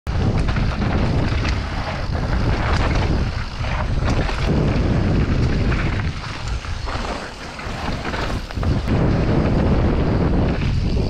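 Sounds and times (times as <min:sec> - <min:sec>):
bike knocking and rattling: 0:00.1 - 0:11.0
tyre noise on dirt: 0:00.1 - 0:11.0
wind buffeting microphone: 0:00.1 - 0:11.0.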